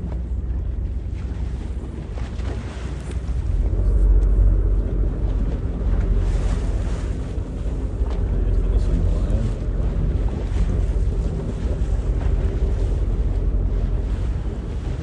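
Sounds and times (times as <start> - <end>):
boat engine rumbling: 0.0 - 15.0
wind buffeting microphone: 0.0 - 15.0.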